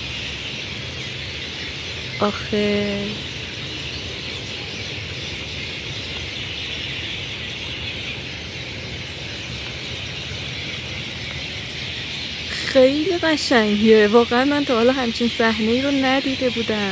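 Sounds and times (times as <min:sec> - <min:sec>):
flock of birds calling: 0:00.0 - 0:16.9.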